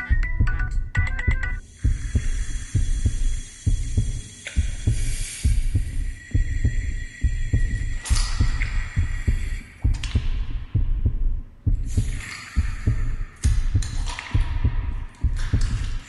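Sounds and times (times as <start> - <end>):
heartbeat thumps: 0.0 - 16.0.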